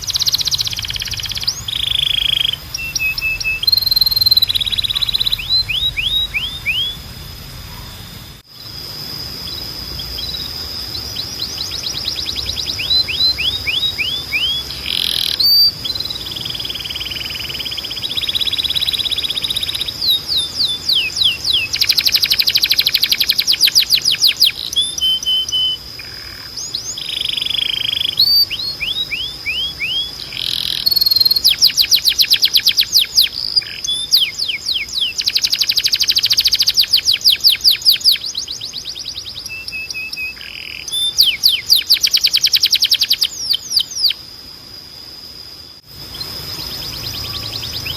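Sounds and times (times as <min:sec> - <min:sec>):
canary singing: 0:00.0 - 0:44.2, 0:45.8 - 0:47.9.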